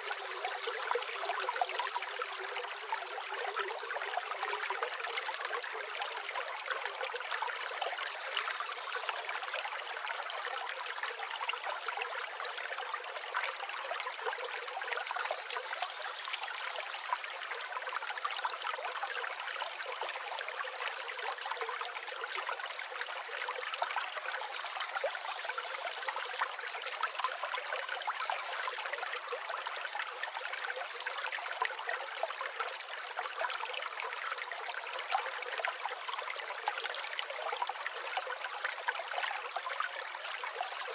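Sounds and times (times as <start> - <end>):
river water babbling: 0.0 - 40.9.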